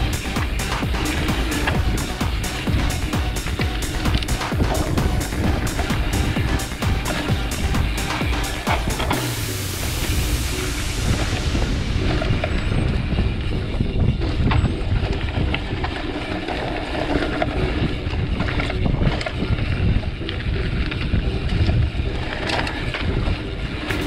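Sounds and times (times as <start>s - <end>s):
bike clicking and rattling: 0.0s - 24.0s
tyres rolling over dirt and leaves: 0.0s - 24.0s
wind buffeting microphone: 0.0s - 24.0s.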